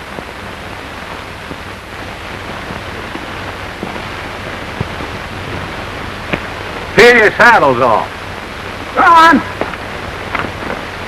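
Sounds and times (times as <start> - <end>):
film soundtrack hiss and crackle: 0.0 - 11.0.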